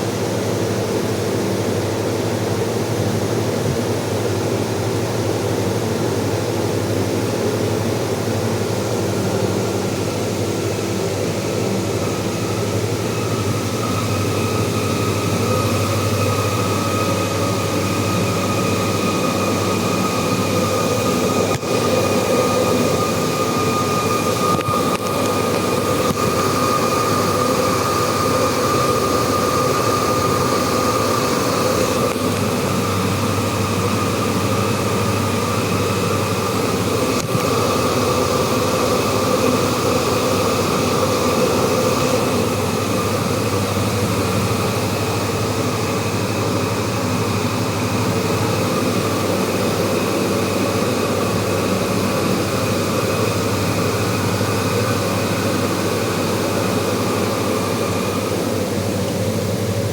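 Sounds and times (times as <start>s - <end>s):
water pump humming: 0.0s - 59.9s.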